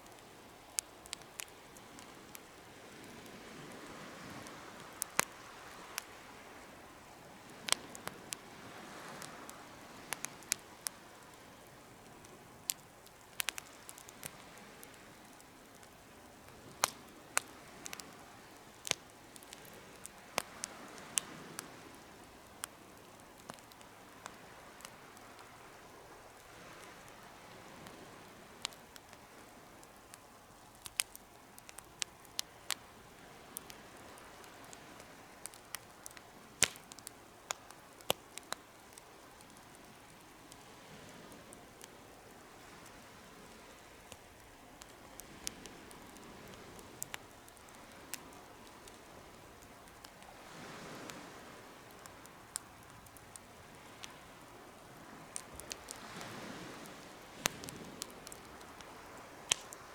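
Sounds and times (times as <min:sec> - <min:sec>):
campfire pops and snaps: 0:00.0 - 0:59.9
hiss of burning fire: 0:00.0 - 0:59.9.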